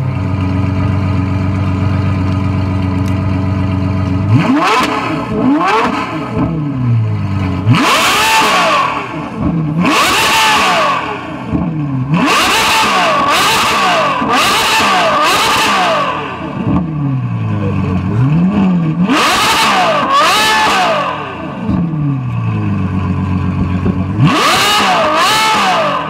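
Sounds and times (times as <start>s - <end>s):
sports car engine idling: 0.0s - 26.0s
sports car engine revving: 0.1s - 26.0s.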